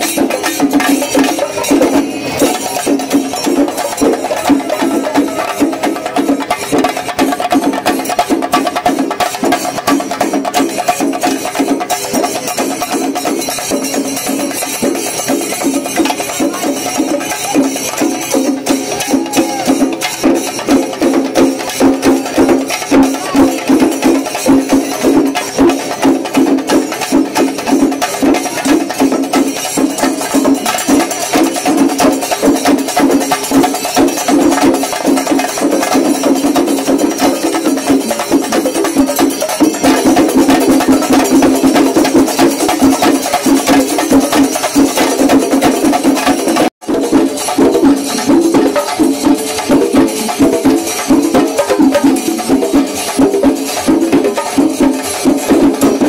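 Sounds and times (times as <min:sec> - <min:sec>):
drums beaten with sticks: 0:00.0 - 0:56.0.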